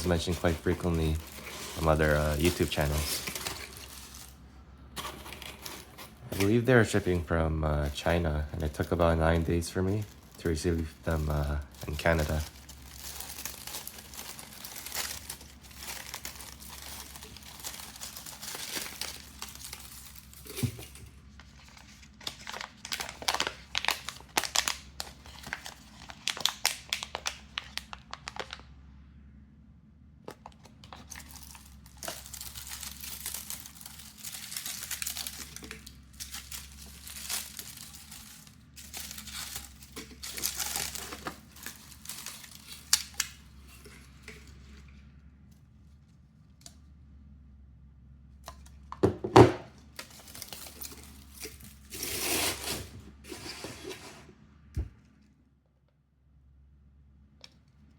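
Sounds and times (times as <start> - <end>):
packaging crinkling and tearing: 0.0 - 28.7, 30.3 - 44.8, 49.9 - 53.9.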